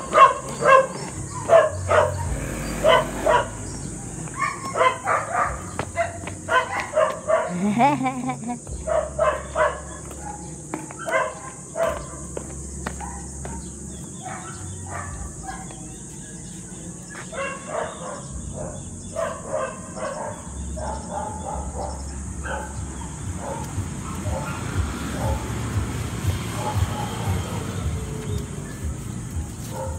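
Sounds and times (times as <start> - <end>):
dogs barking: 0.0 - 29.9
insects droning: 0.0 - 29.9.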